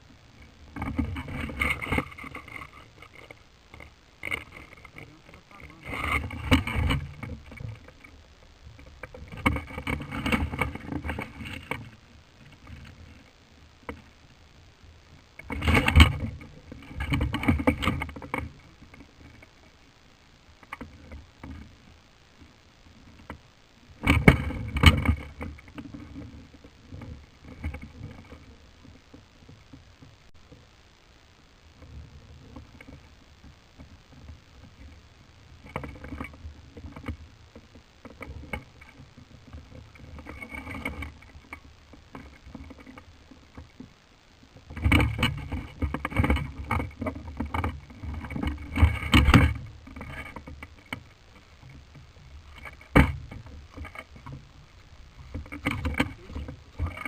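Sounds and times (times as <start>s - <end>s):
rustling and crackling handling noise: 0.0s - 57.0s.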